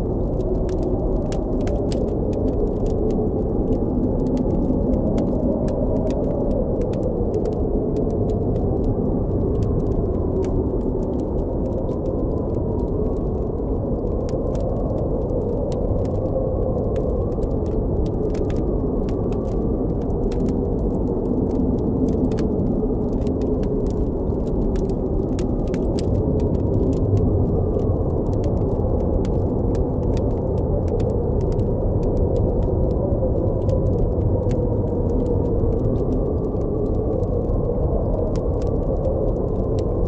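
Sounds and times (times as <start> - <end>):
campfire crackling: 0.1 - 40.0.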